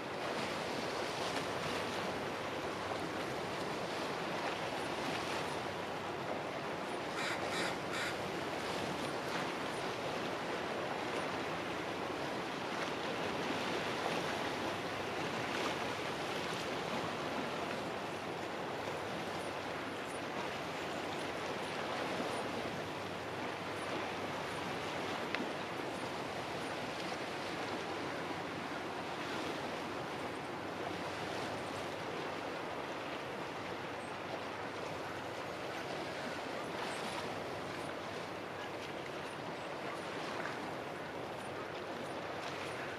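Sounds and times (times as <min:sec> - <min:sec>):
small waves washing on shore: 0:00.0 - 0:42.9.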